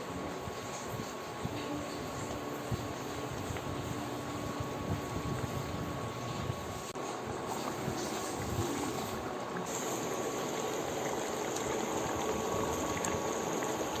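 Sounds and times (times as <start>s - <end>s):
sauce bubbling in a pot: 0.3s - 14.0s.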